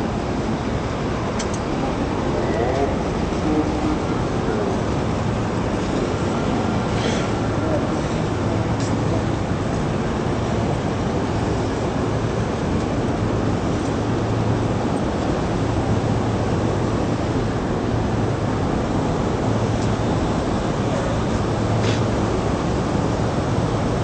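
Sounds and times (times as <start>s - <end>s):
station platform noise: 0.0s - 23.9s.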